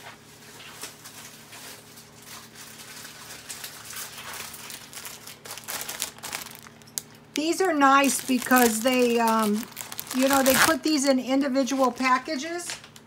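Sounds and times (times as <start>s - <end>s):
low steady hum: 0.0s - 13.0s
plastic and foil wrappers crinkling: 0.3s - 13.0s.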